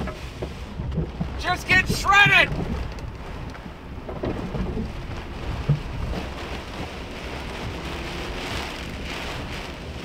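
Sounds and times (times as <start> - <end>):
heavy rain on windshield: 0.0 - 10.0
storm wind buffeting vehicle: 0.0 - 10.0.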